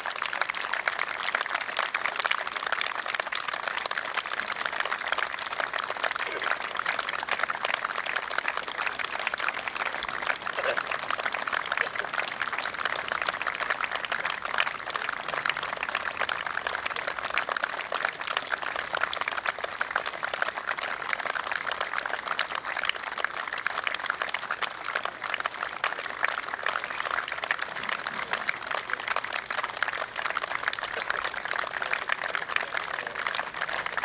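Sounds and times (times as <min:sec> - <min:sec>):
crowd applauding: 0:00.0 - 0:34.0.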